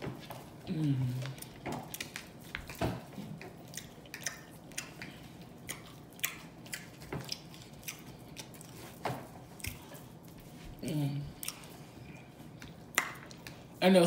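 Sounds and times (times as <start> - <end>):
person chewing food: 0.0 - 13.8.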